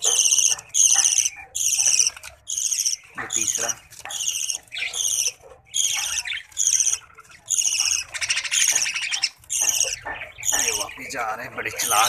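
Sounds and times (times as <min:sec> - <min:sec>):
bird chicks squawking: 0:00.0 - 0:12.0.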